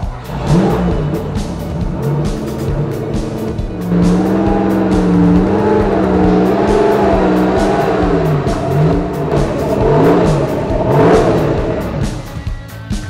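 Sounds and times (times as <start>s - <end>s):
car engine running: 0.0s - 13.0s
music with steady beat: 0.0s - 13.0s.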